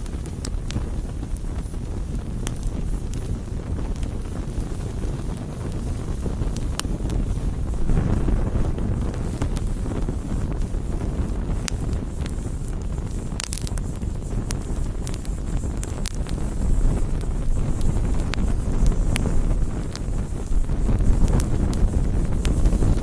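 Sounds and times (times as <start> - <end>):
campfire flames rumbling: 0.0 - 23.0
wood crackling and popping: 0.0 - 23.0.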